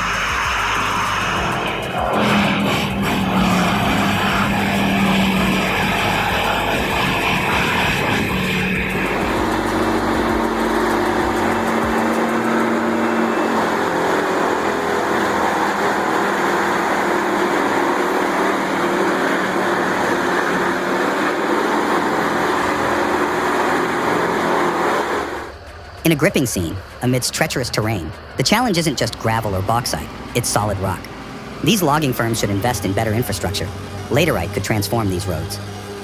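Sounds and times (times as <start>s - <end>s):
heavy machinery engine running: 0.0s - 36.0s.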